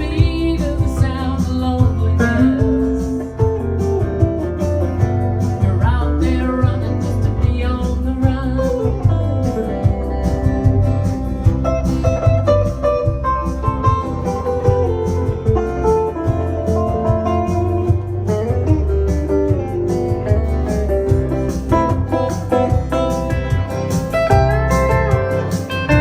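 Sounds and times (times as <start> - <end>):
bass and drums: 0.0 - 26.0
lead guitar melody: 0.0 - 26.0.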